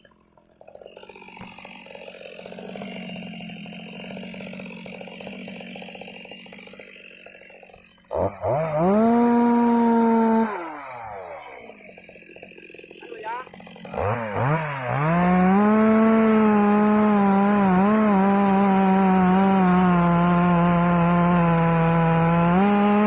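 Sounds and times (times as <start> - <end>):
chainsaw revving: 0.5 - 23.0.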